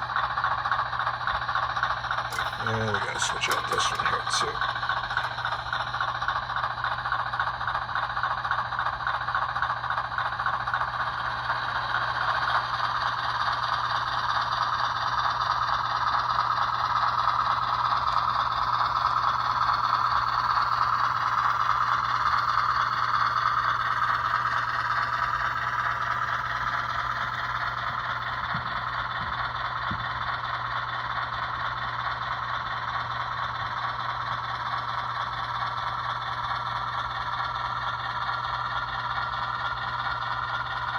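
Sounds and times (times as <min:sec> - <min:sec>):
model locomotive whirring and rattling: 0:00.0 - 0:40.9.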